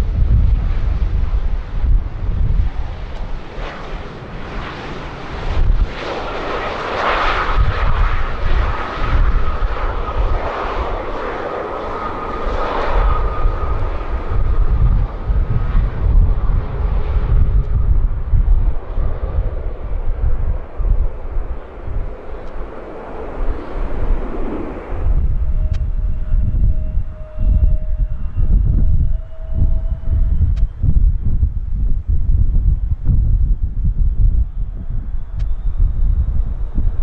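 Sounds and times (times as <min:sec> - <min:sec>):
wind buffeting microphone: 0:00.0 - 0:37.0
jet engines whining: 0:00.7 - 0:31.3.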